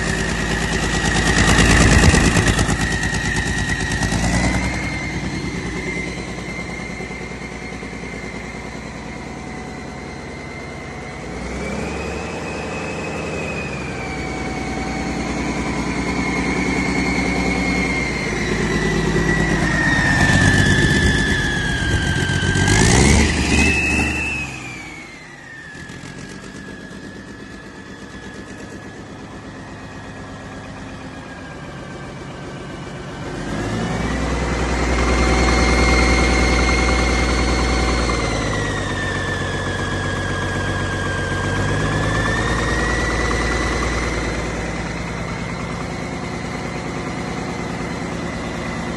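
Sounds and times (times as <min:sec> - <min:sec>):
diesel engine running: 0:00.0 - 0:48.9
high whine: 0:00.0 - 0:48.9.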